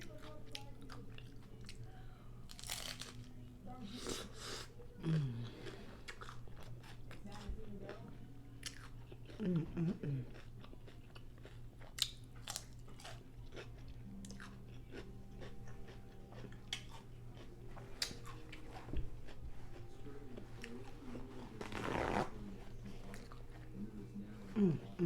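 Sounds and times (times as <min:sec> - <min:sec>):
chewing crunchy taco: 0:00.0 - 0:01.9, 0:02.5 - 0:03.3, 0:04.0 - 0:22.3, 0:23.0 - 0:23.8.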